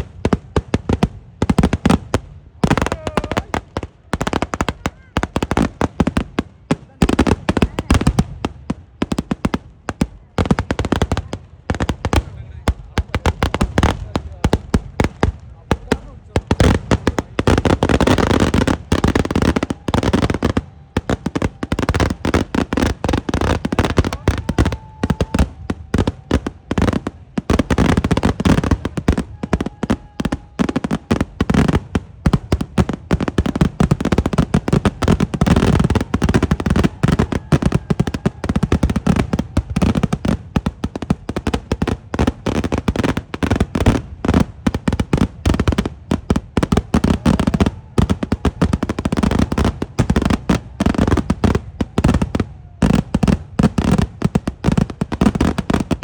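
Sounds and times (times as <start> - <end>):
fireworks explosions: 0.0 - 56.0.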